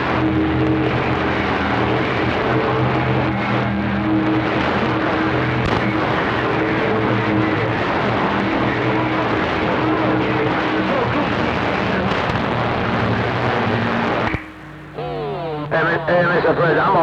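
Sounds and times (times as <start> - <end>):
low multi-tone hum: 0.0 - 17.0
radio static hiss: 0.0 - 17.0.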